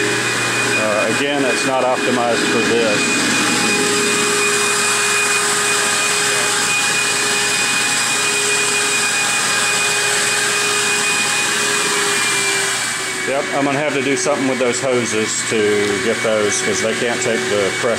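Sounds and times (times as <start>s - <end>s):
vacuum pump whine: 0.0s - 17.9s.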